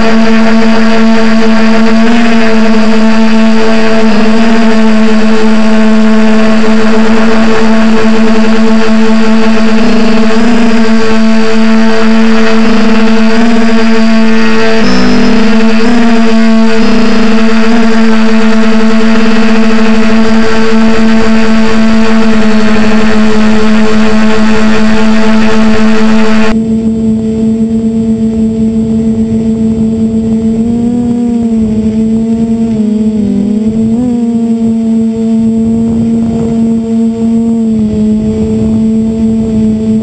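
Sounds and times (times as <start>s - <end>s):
drone propellers humming: 0.0s - 40.0s.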